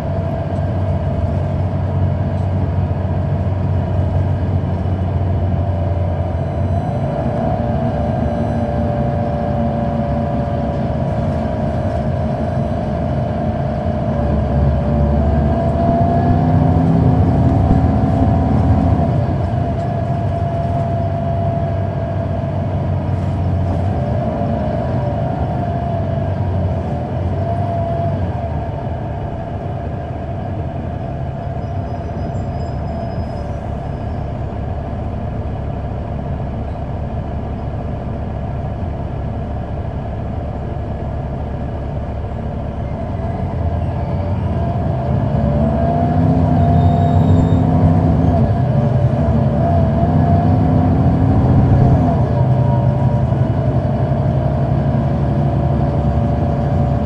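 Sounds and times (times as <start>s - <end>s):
bus engine whine and rumble: 0.0s - 57.0s.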